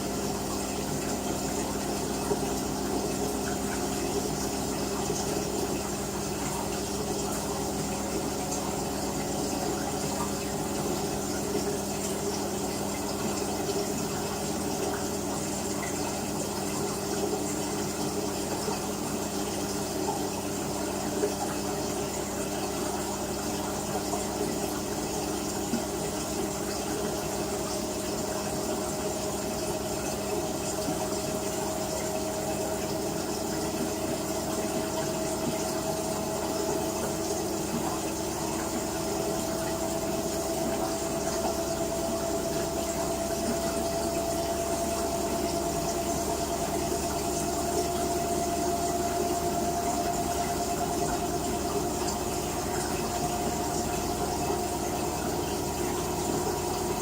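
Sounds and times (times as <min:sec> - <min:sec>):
washing machine hum: 0:00.0 - 0:57.0
water rushing: 0:00.0 - 0:57.0.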